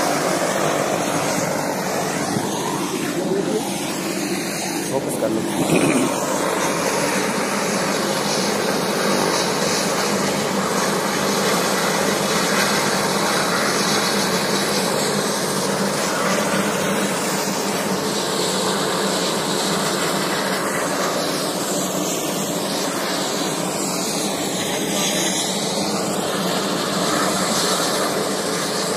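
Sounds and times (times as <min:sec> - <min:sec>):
helicopter engine and rotor: 0:00.0 - 0:28.9.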